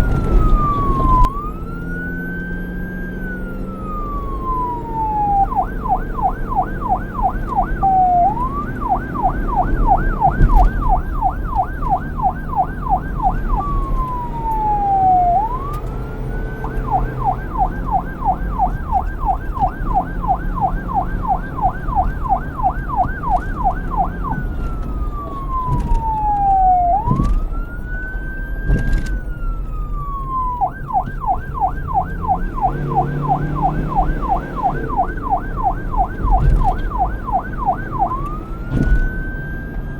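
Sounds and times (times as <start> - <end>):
low engine and road rumble: 0.0 - 39.9
police siren yelp and wail: 0.0 - 39.9.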